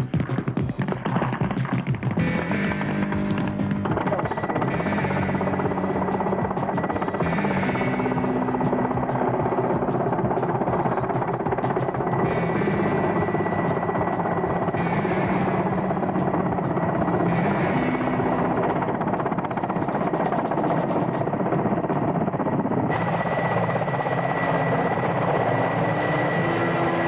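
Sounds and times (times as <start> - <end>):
helicopter rotor and turbine noise: 0.0 - 27.0
high whine: 0.0 - 27.0.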